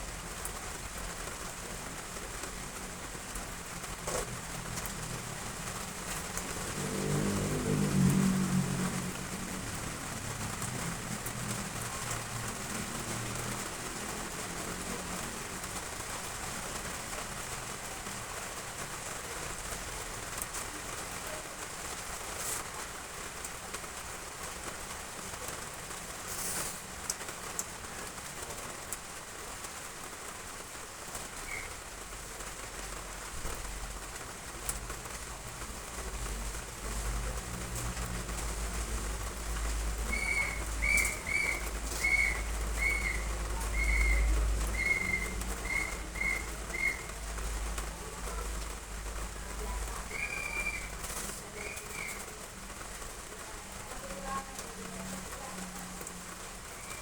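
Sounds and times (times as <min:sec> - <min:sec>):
heavy rain on roof tiles: 0:00.0 - 0:57.0.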